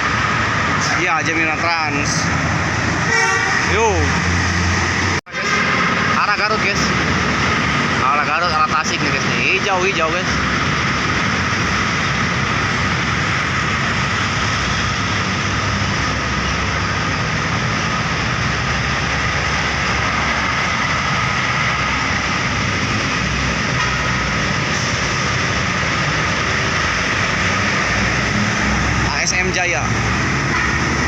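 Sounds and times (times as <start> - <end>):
road traffic roar: 0.0 - 31.0.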